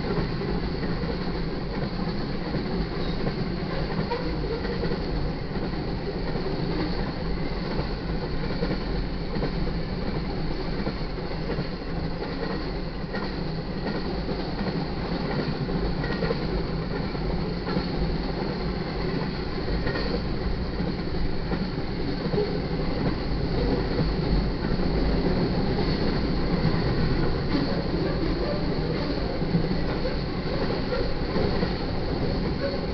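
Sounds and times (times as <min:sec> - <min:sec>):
steel wheels rumbling on rail: 0:00.0 - 0:32.9.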